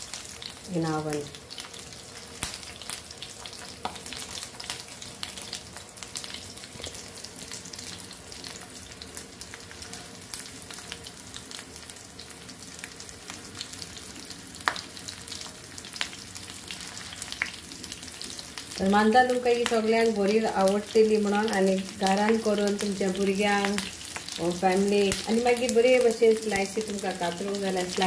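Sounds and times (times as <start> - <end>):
oil sizzling in a pan: 0.0 - 28.0.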